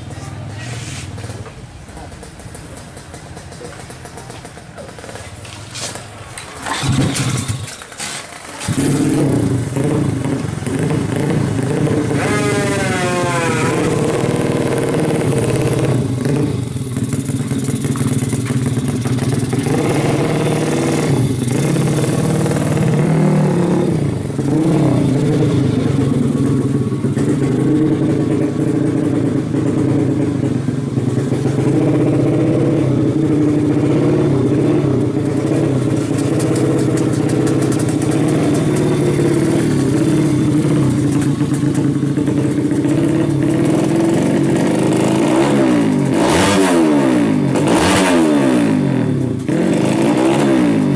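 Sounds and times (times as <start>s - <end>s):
two-stroke motorcycle engine revving: 6.3s - 50.9s.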